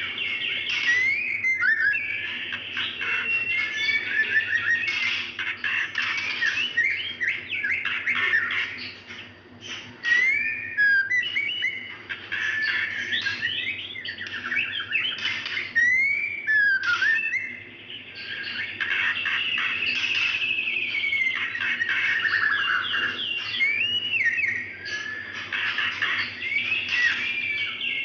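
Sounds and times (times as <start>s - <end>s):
bird whistles and chirps: 0.0s - 28.0s.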